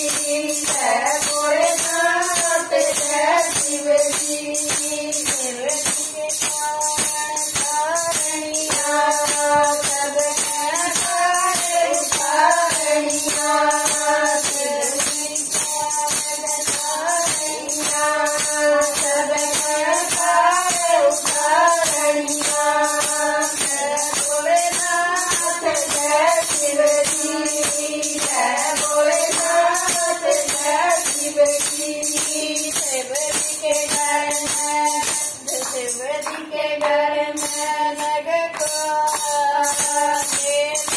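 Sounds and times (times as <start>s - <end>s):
hand clapping: 0.0s - 40.9s
jingling percussion: 0.0s - 40.9s
women singing together: 0.0s - 40.9s.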